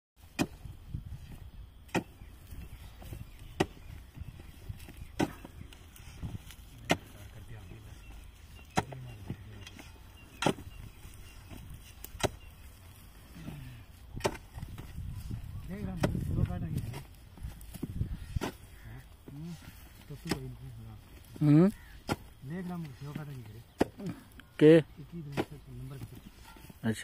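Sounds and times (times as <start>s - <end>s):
hoe chopping into dry soil: 0.2s - 7.8s, 8.5s - 24.3s, 25.2s - 26.8s.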